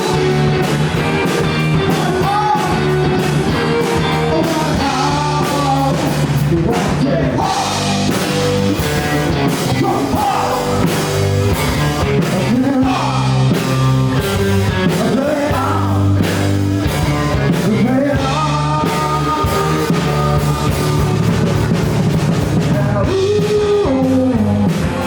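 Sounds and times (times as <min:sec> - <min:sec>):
person singing: 0:00.0 - 0:08.5, 0:09.3 - 0:11.0, 0:12.0 - 0:13.8, 0:14.8 - 0:16.3, 0:16.9 - 0:25.0
rock band playing live: 0:00.0 - 0:25.0.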